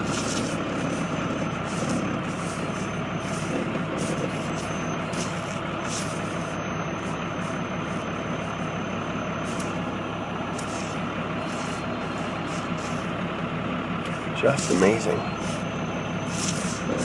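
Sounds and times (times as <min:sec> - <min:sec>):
car engine: 0:00.0 - 0:17.0
road noise: 0:00.0 - 0:17.0.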